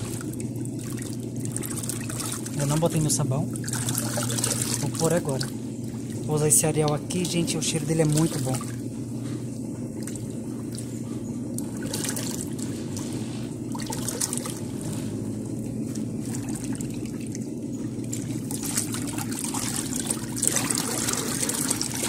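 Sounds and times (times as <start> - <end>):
hand stirring water: 0.0 - 22.0
washer motor hum: 0.0 - 22.0
water swishing and splashing: 0.0 - 22.0.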